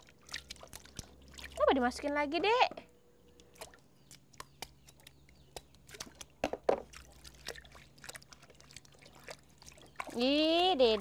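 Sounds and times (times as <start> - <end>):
water splashing in a plastic basin: 0.0 - 2.1, 3.4 - 11.0.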